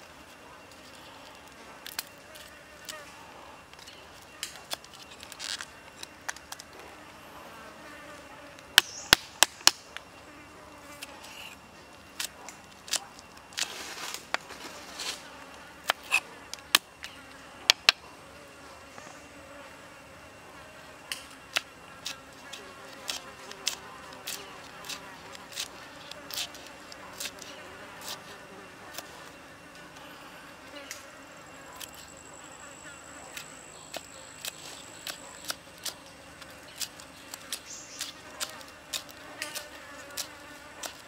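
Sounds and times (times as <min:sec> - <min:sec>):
faint insect buzz: 0:00.0 - 0:41.0.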